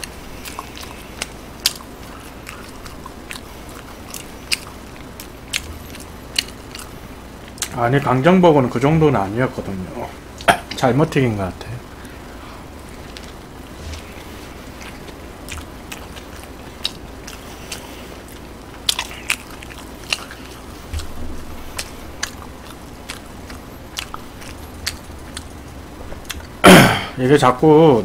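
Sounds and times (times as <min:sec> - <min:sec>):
man chewing food: 0:00.0 - 0:08.2, 0:11.8 - 0:27.0.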